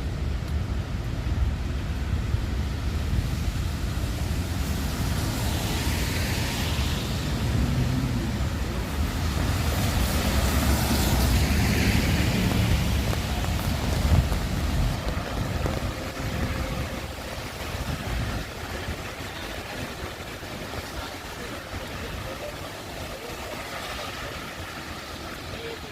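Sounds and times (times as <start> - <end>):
traffic on a wet road: 0.0 - 25.9
wind buffeting microphone: 0.0 - 25.9.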